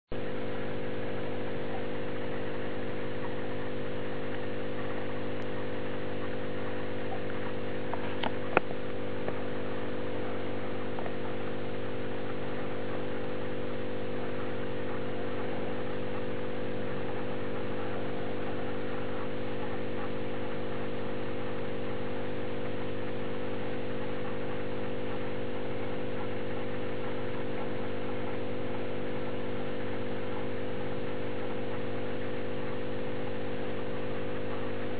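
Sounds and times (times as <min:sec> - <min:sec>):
aquarium pump humming: 0:00.1 - 0:34.9.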